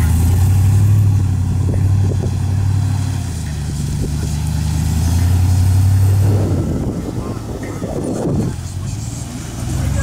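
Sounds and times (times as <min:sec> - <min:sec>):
vehicle engine low rumble: 0:00.0 - 0:10.0.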